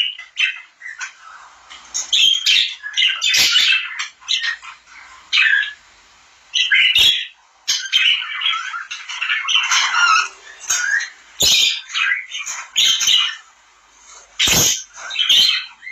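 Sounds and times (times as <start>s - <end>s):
birds chirping and squawking: 0.0s - 15.9s.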